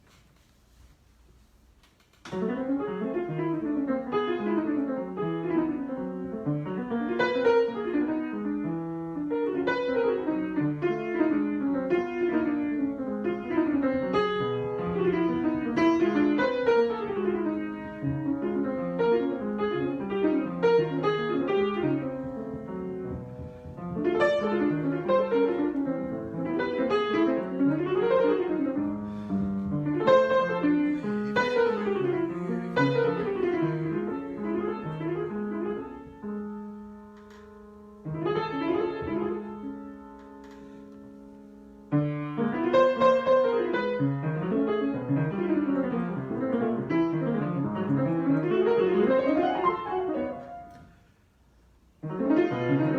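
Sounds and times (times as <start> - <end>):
improvised piano music: 2.3 - 51.1, 51.8 - 52.9.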